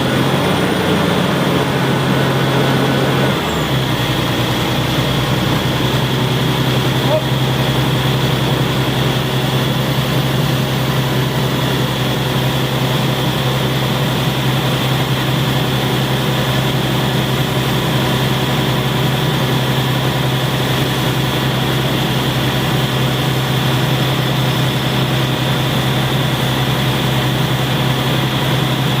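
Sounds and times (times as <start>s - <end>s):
diesel engine running with misfire: 0.0s - 29.0s.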